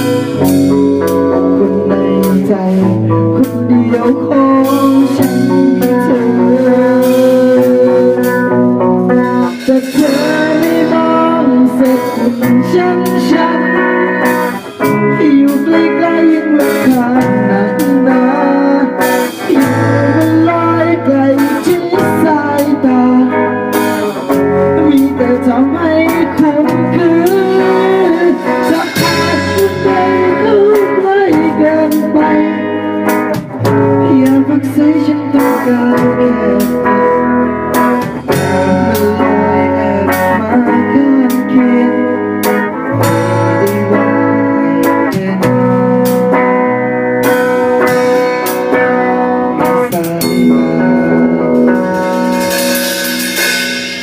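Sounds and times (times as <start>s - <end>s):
guitar music: 0.0s - 54.0s.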